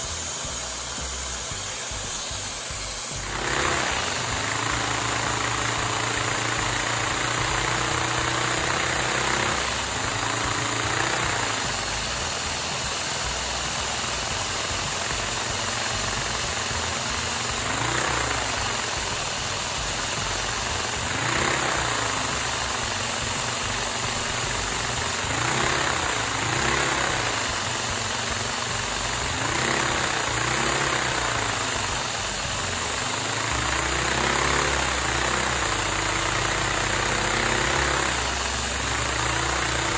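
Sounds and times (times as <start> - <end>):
toy vacuum engine clattering: 1.6 - 39.9.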